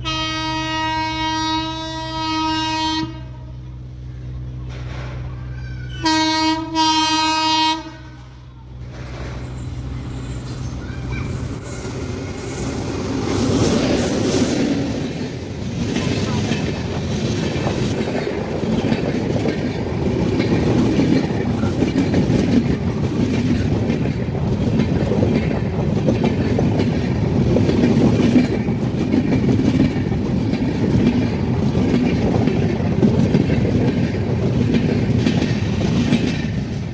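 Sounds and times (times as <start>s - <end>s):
train coaches rolling past: 0.0s - 36.9s.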